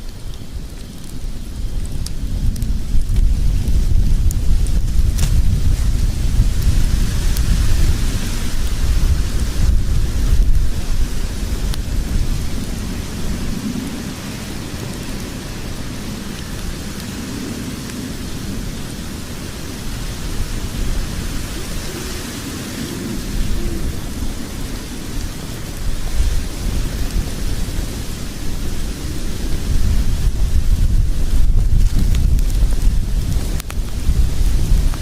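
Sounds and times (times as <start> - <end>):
faint fire crackle: 0.0 - 35.0
fire rumbling and hissing: 0.0 - 35.0.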